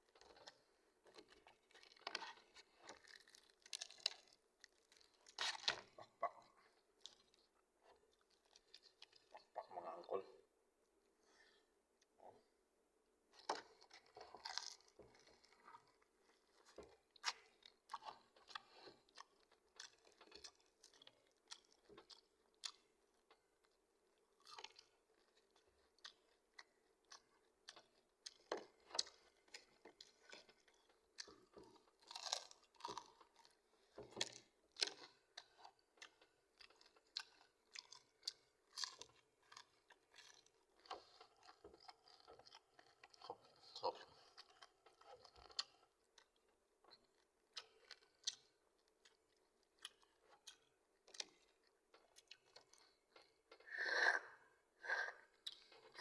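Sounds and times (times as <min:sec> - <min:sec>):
person chewing: 0:00.0 - 0:09.7, 0:13.3 - 0:23.8, 0:24.4 - 0:54.4, 0:55.1 - 0:56.0.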